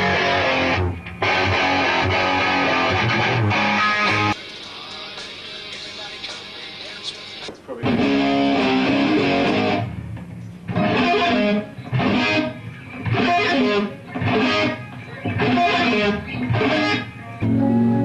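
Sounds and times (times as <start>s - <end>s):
electric guitar strummed chords: 0.0s - 4.4s, 7.8s - 18.0s.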